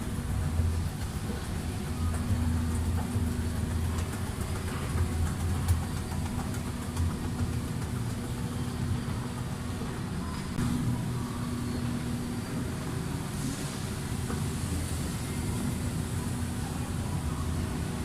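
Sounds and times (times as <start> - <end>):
escalator humming: 0.0 - 18.0.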